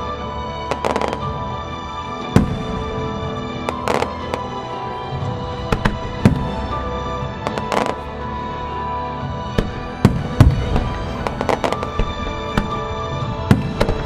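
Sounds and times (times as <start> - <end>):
fireworks crackling: 0.0 - 14.0
show music: 0.0 - 14.0.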